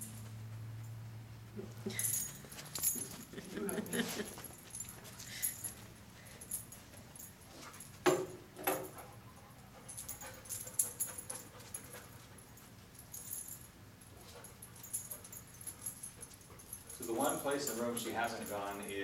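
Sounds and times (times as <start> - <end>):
dog collar tags jingling: 1.8 - 8.0, 9.8 - 19.0.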